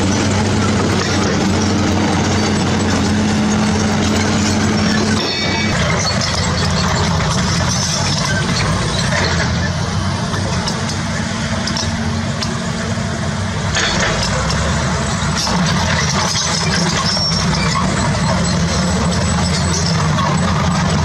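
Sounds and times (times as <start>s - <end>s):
diesel engine running steadily: 0.0s - 21.0s
machinery noise: 0.0s - 21.0s.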